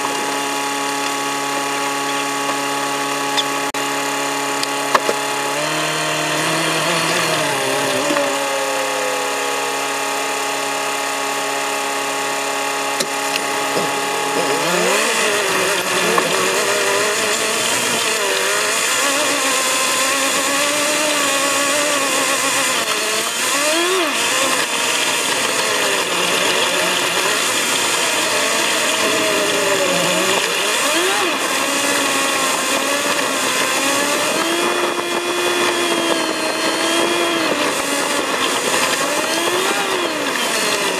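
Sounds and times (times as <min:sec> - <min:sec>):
high whiny vehicle engine: 0:00.0 - 0:40.9.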